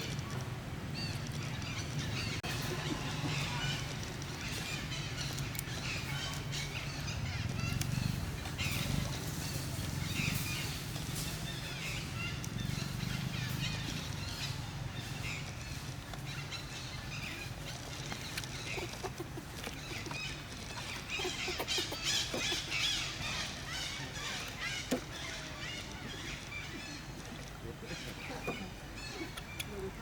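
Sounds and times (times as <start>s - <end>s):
chirping and squawking animal calls: 0.0s - 30.0s.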